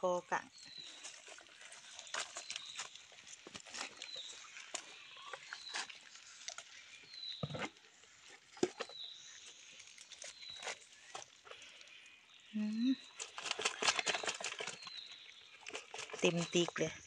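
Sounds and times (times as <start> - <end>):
fish flapping in bucket: 0.7 - 12.0, 13.0 - 17.0
fish trap rustling: 0.8 - 6.8, 7.5 - 11.9, 13.0 - 16.8.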